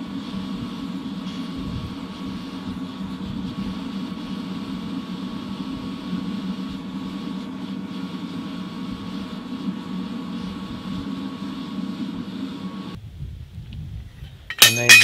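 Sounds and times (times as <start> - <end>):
faint whine: 0.0 - 13.2.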